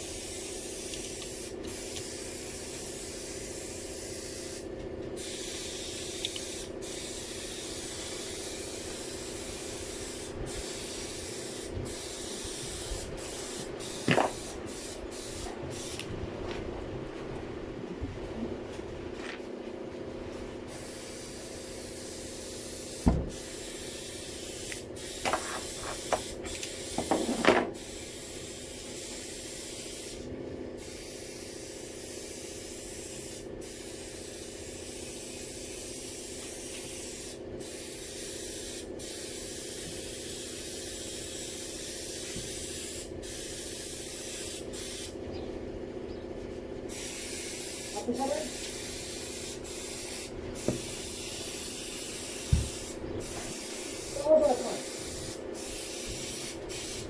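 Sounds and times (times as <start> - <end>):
spray hissing: 0.0 - 16.1, 20.7 - 45.2, 46.9 - 57.0.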